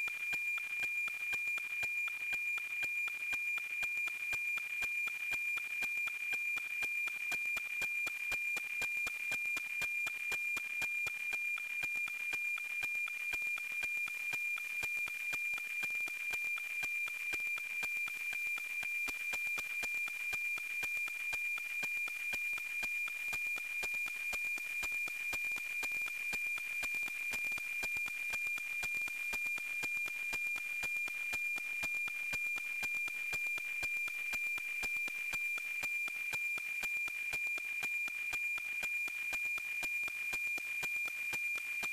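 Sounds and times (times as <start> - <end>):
satellite signal tone with ticking: 0.0 - 41.9.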